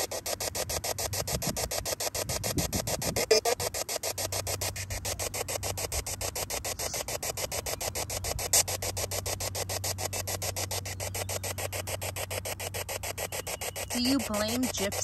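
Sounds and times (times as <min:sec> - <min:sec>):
pulsing radio static: 0:00.0 - 0:15.0.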